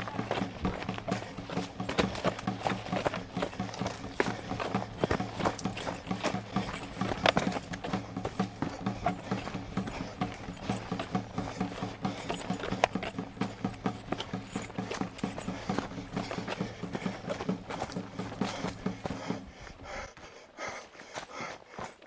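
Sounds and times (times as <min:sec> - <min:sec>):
running footsteps on dirt trail: 0:00.0 - 0:22.0
steady low hum: 0:00.0 - 0:22.0.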